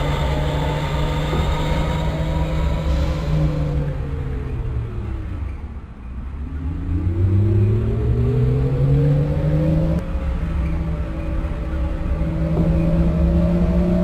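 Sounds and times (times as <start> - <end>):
electric train motor whine: 0.0 - 5.5, 6.7 - 14.0
train running rumble: 0.0 - 9.2, 9.8 - 14.0.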